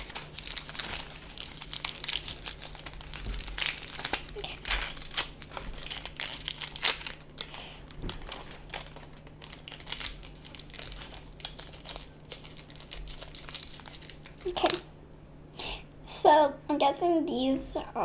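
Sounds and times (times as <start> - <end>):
plastic wrapper crinkling: 0.0 - 14.8.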